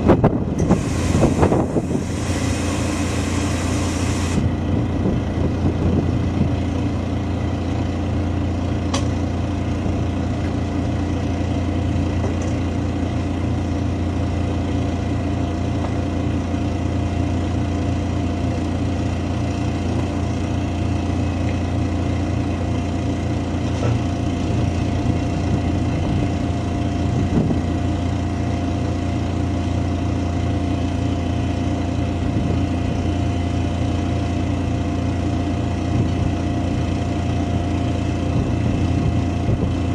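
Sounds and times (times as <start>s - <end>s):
large diesel engine idling: 0.0s - 39.9s.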